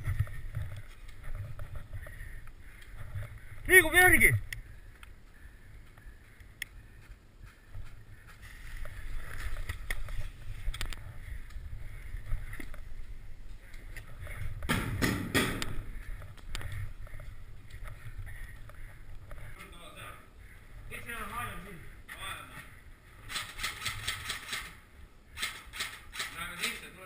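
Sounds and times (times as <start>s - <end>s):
wind and handling rumble: 0.0s - 27.0s.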